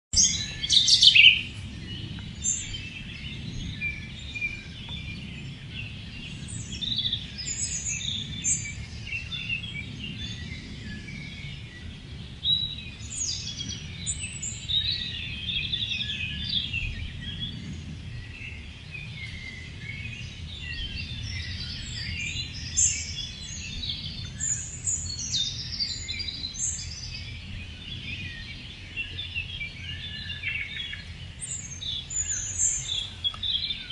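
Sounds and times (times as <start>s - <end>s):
birds chirping and singing: 0.2s - 33.9s.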